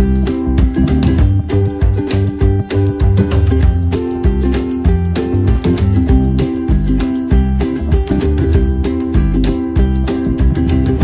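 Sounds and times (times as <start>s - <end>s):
background music with plucked guitar: 0.0s - 11.0s
bass line: 0.0s - 11.0s.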